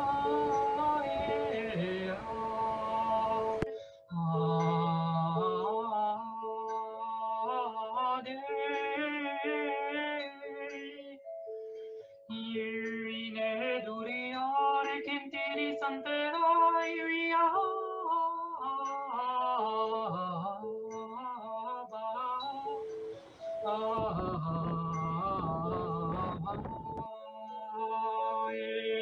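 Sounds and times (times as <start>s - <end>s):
woman singing wordlessly: 0.0s - 11.1s, 12.3s - 22.9s, 23.6s - 29.0s.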